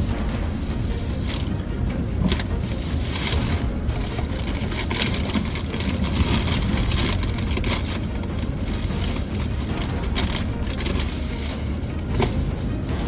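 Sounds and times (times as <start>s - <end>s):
engine and tyre rumble: 0.0s - 13.0s
knocks and rattles: 0.0s - 13.0s.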